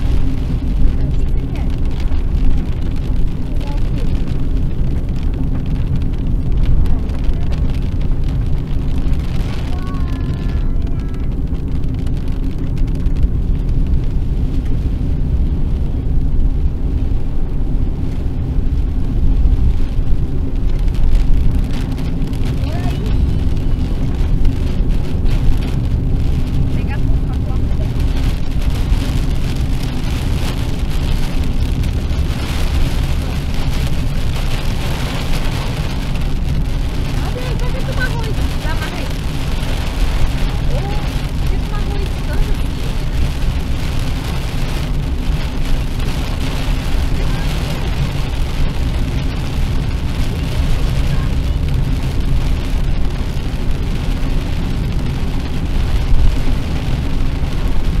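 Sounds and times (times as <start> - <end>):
rain on car windshield: 0.0 - 58.0
road and tyre rumble: 0.0 - 58.0.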